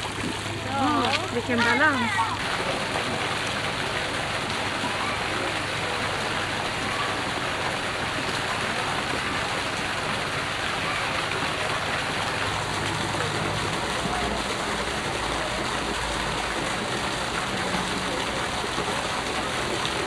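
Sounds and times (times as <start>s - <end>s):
fountain water splashing into pool: 0.0s - 20.0s.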